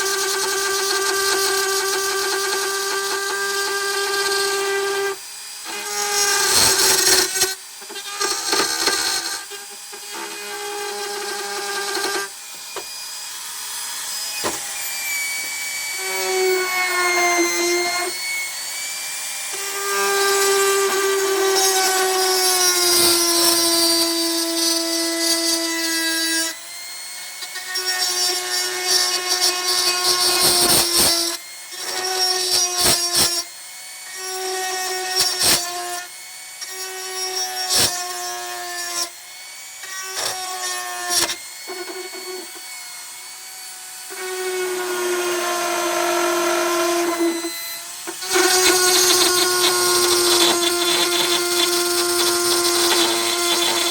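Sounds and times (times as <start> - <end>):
rotary tool whining cutting steel: 0.0 - 53.9.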